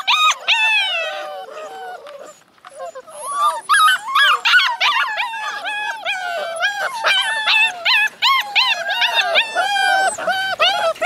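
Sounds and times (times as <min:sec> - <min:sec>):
puppies howling and yipping: 0:00.0 - 0:11.0.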